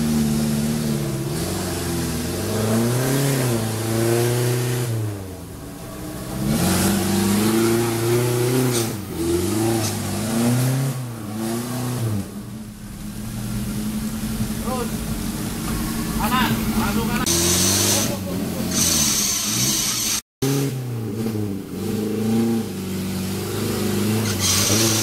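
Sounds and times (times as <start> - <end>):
engine revving hard: 0.0 - 5.3, 6.1 - 12.6, 13.2 - 25.0.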